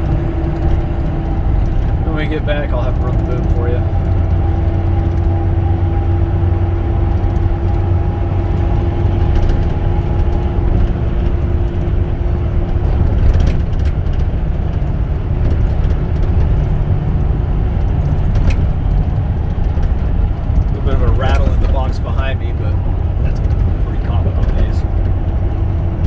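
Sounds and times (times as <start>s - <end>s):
steady whine: 0.0s - 13.7s, 18.0s - 26.0s
diesel engine running: 0.0s - 26.0s
tyre and road noise: 0.0s - 26.0s.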